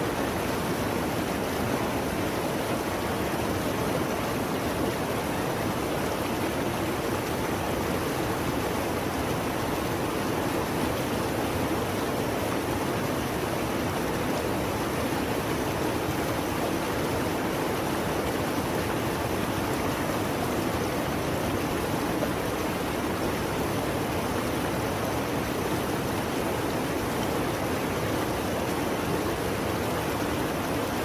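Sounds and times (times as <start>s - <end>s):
river rushing roar: 0.0s - 31.0s.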